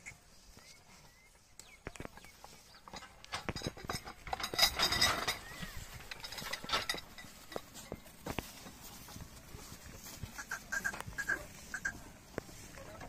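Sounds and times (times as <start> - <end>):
cart clinking and rattling: 2.2 - 13.0.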